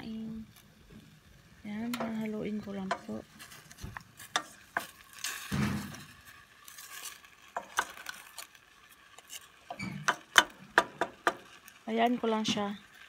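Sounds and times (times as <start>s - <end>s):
spoon stirring berries in a pot: 0.0s - 13.0s.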